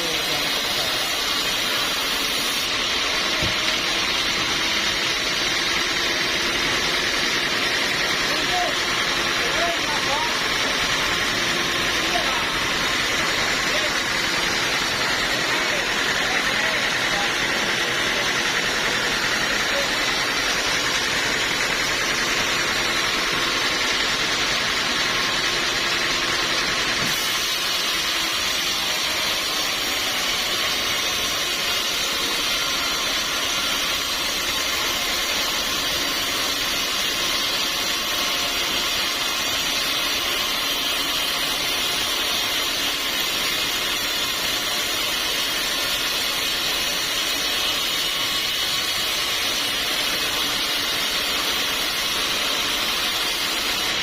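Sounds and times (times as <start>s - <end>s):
sawmill sawing log: 0.0s - 54.0s.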